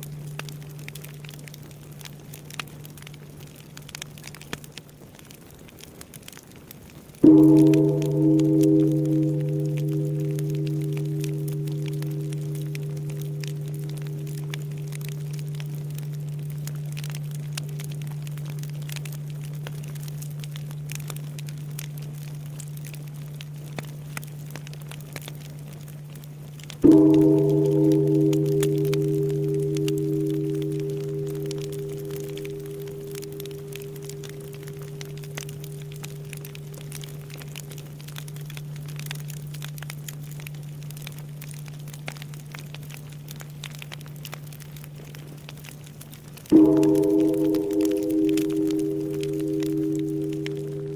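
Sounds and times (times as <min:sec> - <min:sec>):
large temple bell humming: 0:00.0 - 0:03.5, 0:07.2 - 0:45.2, 0:46.4 - 0:50.9
bonfire crackling and popping: 0:00.0 - 0:50.9.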